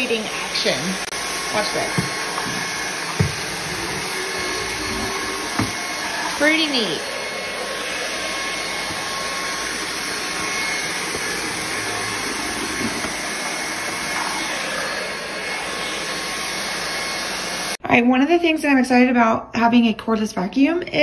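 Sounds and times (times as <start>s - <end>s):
stick vacuum running: 0.0s - 17.8s.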